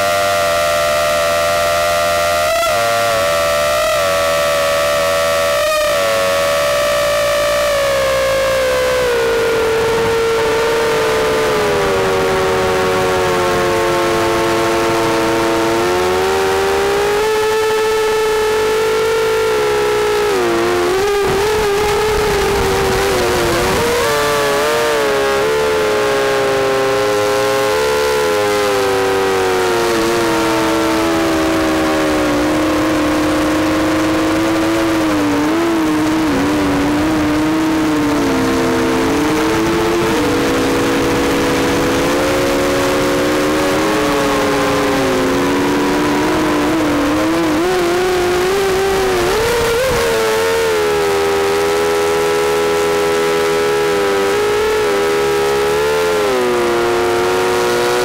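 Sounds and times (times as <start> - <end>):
quadcopter propellers whining: 0.0 - 56.4.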